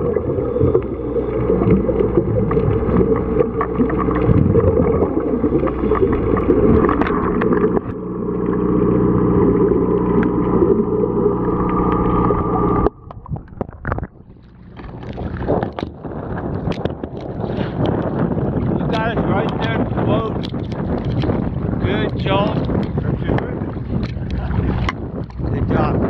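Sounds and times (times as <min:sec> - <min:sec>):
water sloshing: 0:00.0 - 0:25.9
boat engine hum underwater: 0:00.0 - 0:26.0
regulator bubbles gurgling: 0:00.0 - 0:26.0
wind: 0:00.0 - 0:26.0.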